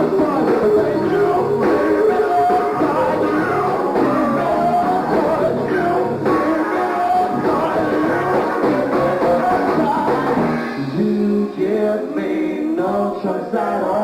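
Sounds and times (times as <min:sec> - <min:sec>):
live r and b band: 0:00.0 - 0:14.0
person singing: 0:00.0 - 0:14.0.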